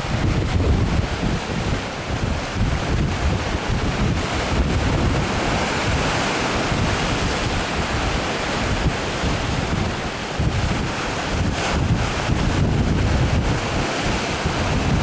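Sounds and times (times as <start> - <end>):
waves washing: 0.0 - 15.0
wind buffeting microphone: 0.0 - 15.0.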